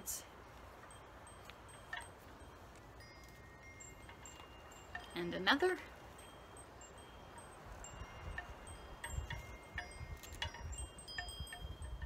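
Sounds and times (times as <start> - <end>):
metal wind chimes ringing: 0.0 - 12.0.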